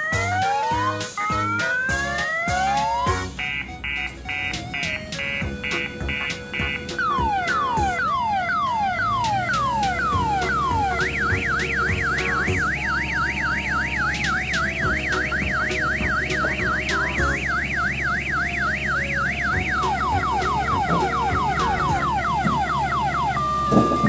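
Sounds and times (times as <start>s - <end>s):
electronic siren: 0.0s - 24.0s
low steady hum: 0.2s - 24.0s.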